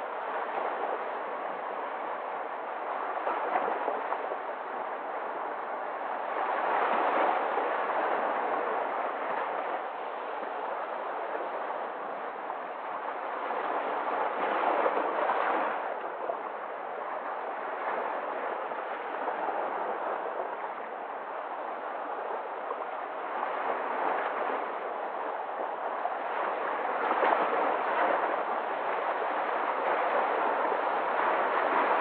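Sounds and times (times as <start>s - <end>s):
sea waves breaking: 0.0s - 32.0s.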